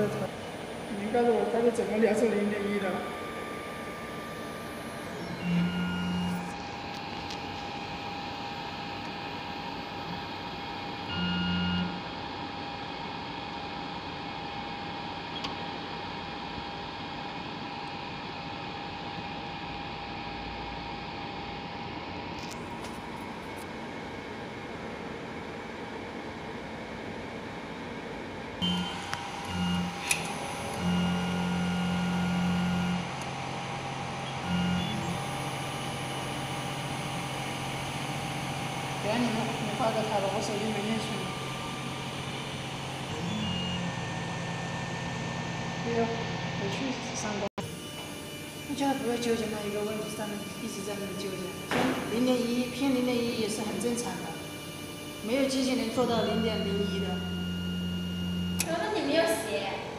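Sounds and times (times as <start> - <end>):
drive motor humming: 0.0 - 17.4, 28.6 - 59.3
steady machine hum: 0.0 - 59.9.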